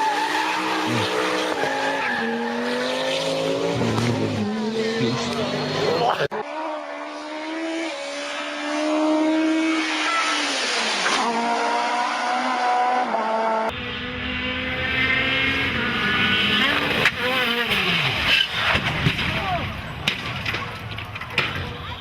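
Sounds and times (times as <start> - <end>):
rally car engines revving: 0.0 - 22.0.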